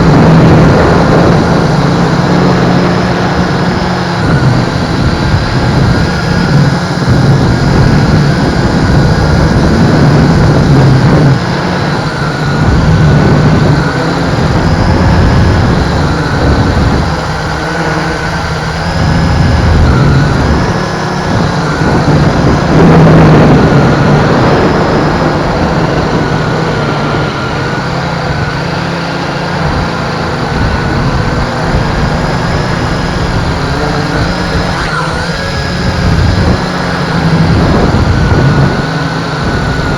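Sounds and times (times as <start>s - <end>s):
drone propellers whining: 0.0s - 39.9s
wind rumble on microphone: 0.0s - 39.9s.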